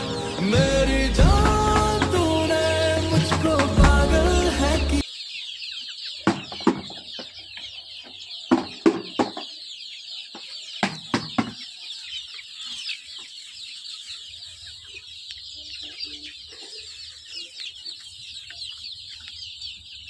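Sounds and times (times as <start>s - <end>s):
chickens clucking: 0.0s - 20.0s
chicks peeping: 0.0s - 20.0s.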